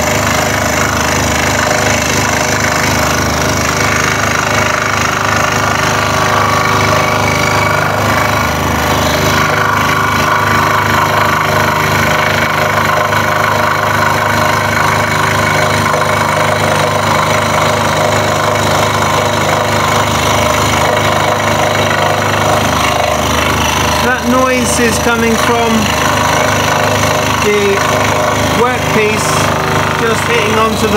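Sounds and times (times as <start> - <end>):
scroll saw cutting wood: 0.0 - 30.9.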